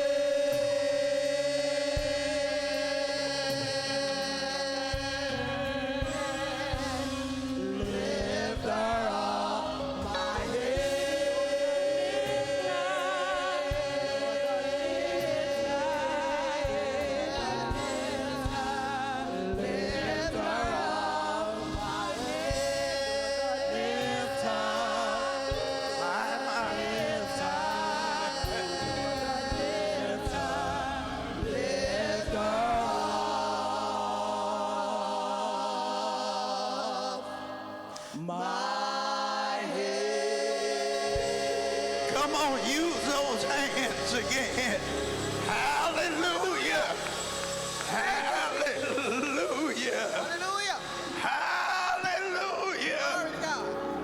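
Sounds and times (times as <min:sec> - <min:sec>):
gospel choir singing: 0:00.0 - 0:54.0
organ-like chord: 0:00.0 - 0:54.0.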